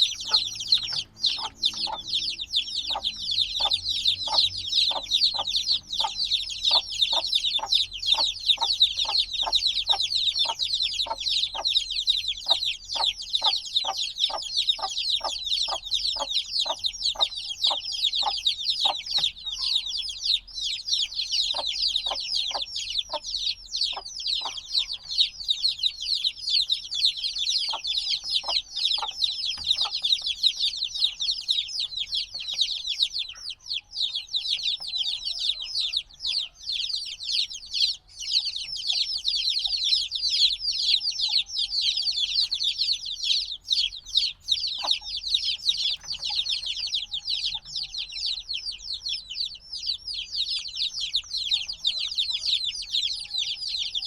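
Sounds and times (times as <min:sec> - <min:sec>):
chicks cheeping: 0:00.0 - 0:54.0.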